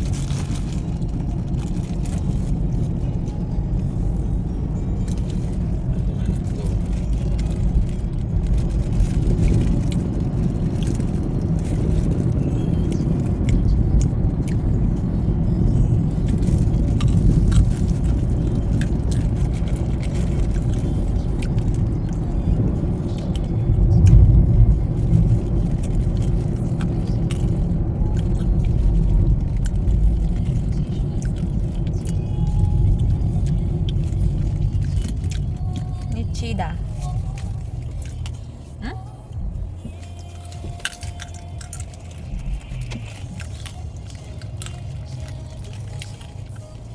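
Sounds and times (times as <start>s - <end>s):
road and engine rumble inside car: 0.0s - 46.9s.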